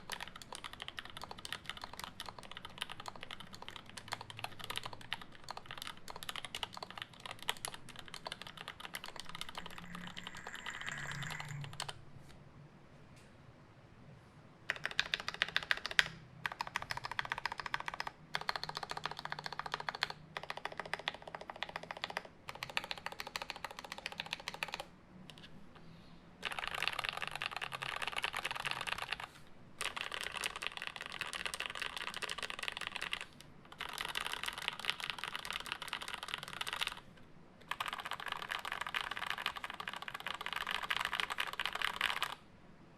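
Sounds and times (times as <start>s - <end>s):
typing on mechanical keyboard: 0.0s - 12.0s, 14.7s - 25.5s, 26.4s - 42.4s.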